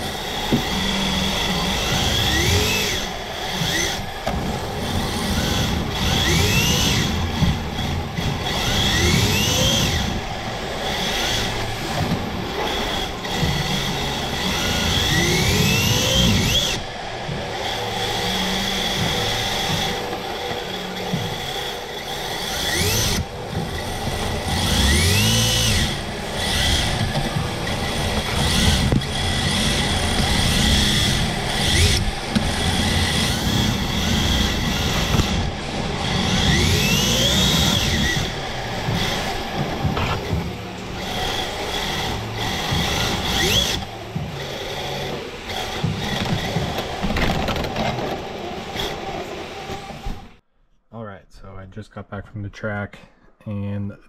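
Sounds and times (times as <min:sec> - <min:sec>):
electric motor whining: 0:00.0 - 0:50.4
tyre noise: 0:00.0 - 0:50.4.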